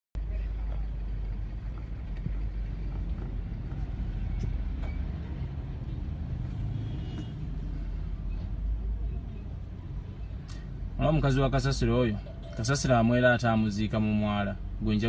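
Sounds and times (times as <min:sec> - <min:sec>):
street traffic rumble: 0:00.2 - 0:15.0.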